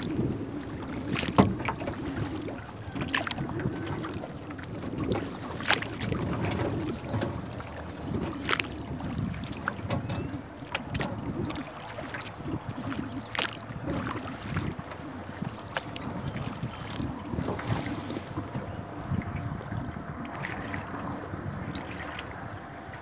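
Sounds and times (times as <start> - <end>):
paddle splash: 0.0 - 23.0
water lapping against hull: 0.0 - 23.0
wind on microphone: 0.0 - 23.0.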